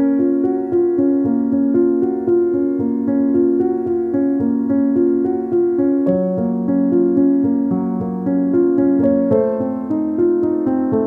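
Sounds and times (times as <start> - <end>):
keyboard repeated notes: 0.0 - 11.0.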